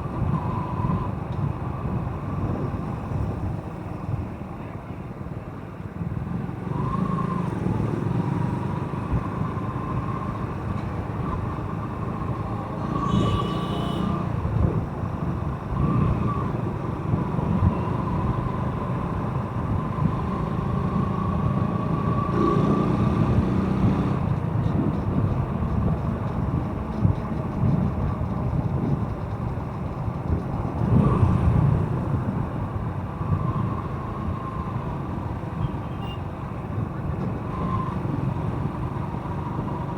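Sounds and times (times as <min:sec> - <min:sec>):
motorcycle engine and road rumble: 0:00.0 - 0:39.9
passing traffic: 0:00.0 - 0:39.9.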